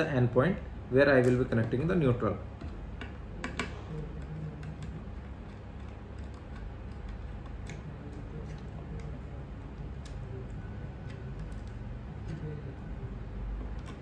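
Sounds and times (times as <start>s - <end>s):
low background hum: 0.0s - 14.0s
wires being handled: 1.1s - 14.0s.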